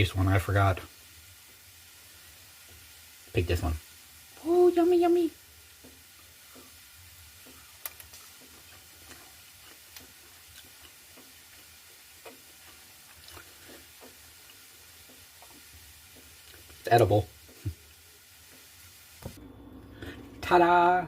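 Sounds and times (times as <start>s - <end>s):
pan sizzling: 0.0s - 21.0s.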